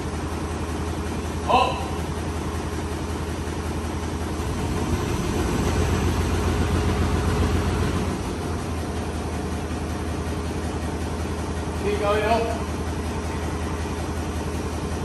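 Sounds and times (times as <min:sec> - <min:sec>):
lifting machine engine running: 0:00.0 - 0:15.0.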